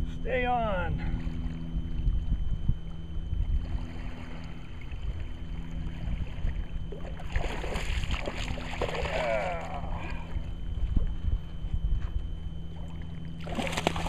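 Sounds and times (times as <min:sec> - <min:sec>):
wind buffeting microphone: 0:00.0 - 0:09.0, 0:09.9 - 0:12.8.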